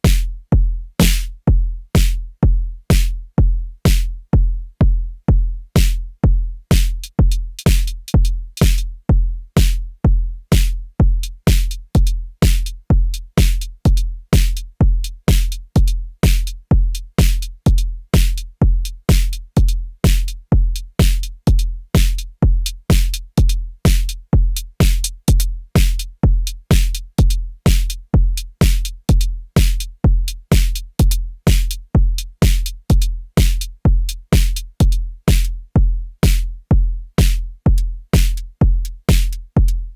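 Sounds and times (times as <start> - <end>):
deep kick drum: 0.0 - 39.9.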